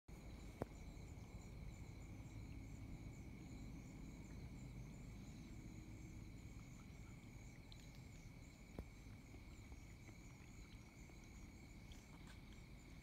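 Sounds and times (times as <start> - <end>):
crickets chirping: 0.1 - 13.0.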